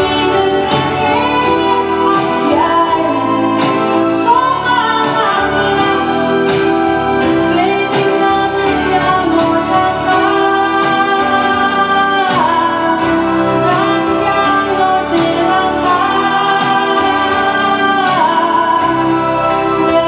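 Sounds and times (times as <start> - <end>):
acoustic band accompaniment: 0.0 - 20.0
woman singing into a microphone: 0.0 - 20.0.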